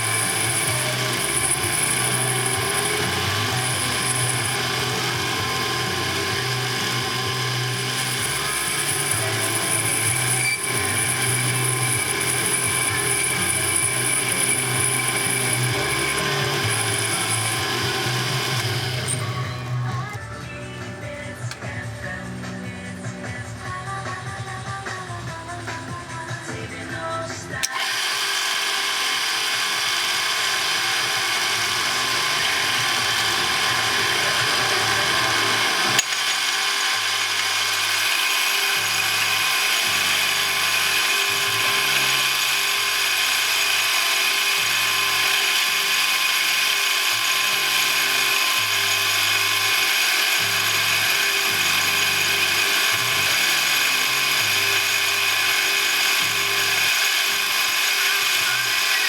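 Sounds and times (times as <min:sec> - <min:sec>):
machine tool whining: 0:00.0 - 0:20.2, 0:27.5 - 0:59.0.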